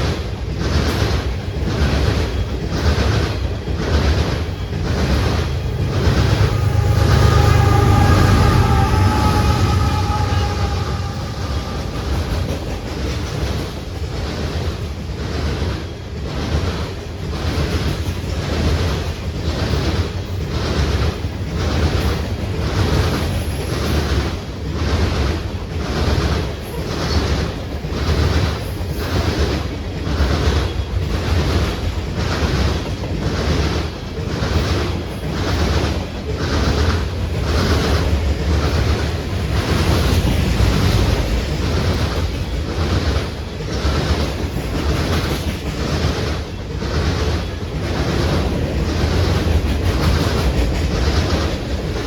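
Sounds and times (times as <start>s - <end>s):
train rushing past: 0.0s - 52.0s.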